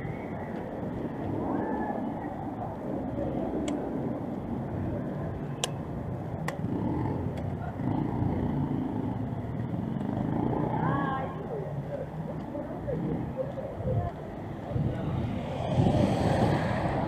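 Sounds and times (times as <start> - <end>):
faint voices: 0.0 - 17.0
passing vehicles rumble: 0.0 - 17.0.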